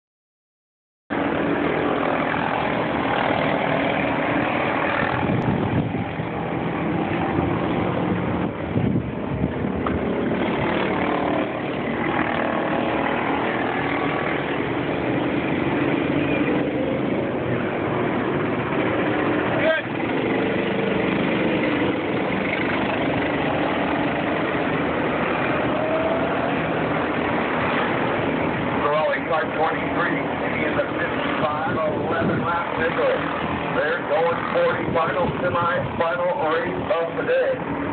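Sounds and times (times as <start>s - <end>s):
go-kart engines droning: 1.2s - 37.9s.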